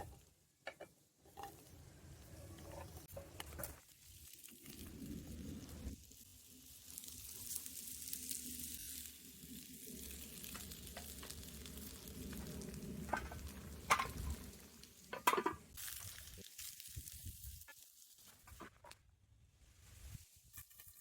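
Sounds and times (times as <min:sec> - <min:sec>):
food sizzling in a frying pan: 0:01.3 - 0:18.6, 0:20.0 - 0:21.0.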